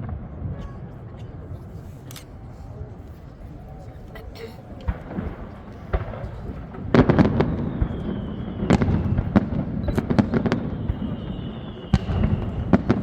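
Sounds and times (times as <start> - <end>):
fireworks bursting: 0.8 - 13.0.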